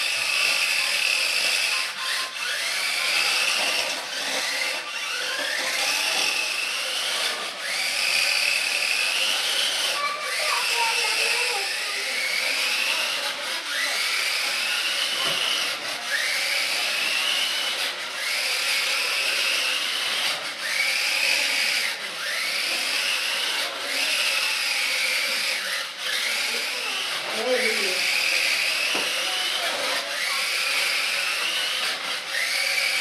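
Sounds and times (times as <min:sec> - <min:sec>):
toy car electric motor whining: 0:00.0 - 0:33.0.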